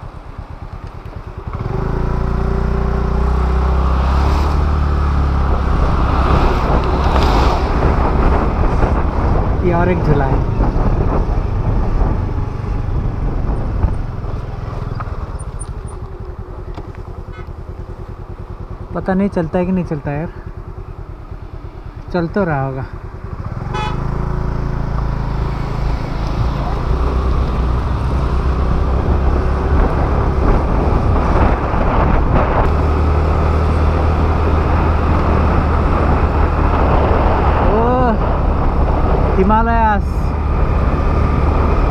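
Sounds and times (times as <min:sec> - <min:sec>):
wind rumble: 0:00.0 - 0:41.9
scooter engine running: 0:00.2 - 0:09.6, 0:10.4 - 0:36.7.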